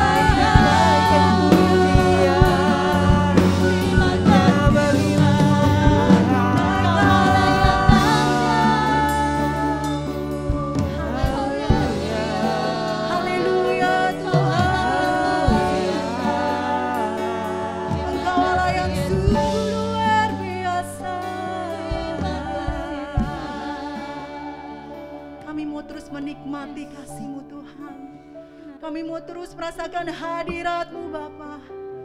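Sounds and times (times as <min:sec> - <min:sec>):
sustained instrumental chords: 0:00.0 - 0:28.8
slow gospel singing: 0:00.0 - 0:29.2.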